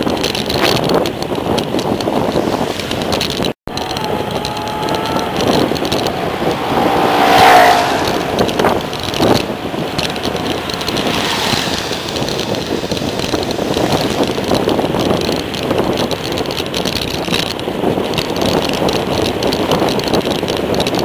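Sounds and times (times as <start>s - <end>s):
bicycle tyre noise: 0.0s - 21.0s
wind buffeting microphone: 0.0s - 21.0s.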